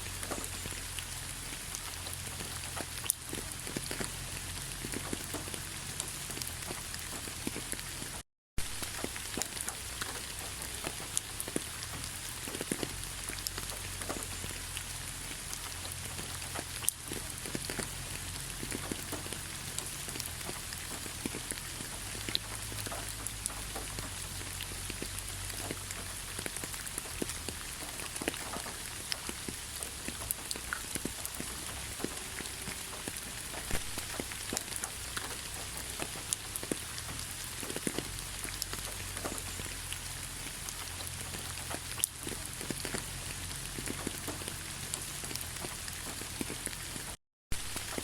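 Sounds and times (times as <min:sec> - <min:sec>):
raindrops ticking on a surface: 0:00.0 - 0:48.0
steady rain: 0:00.0 - 0:48.0.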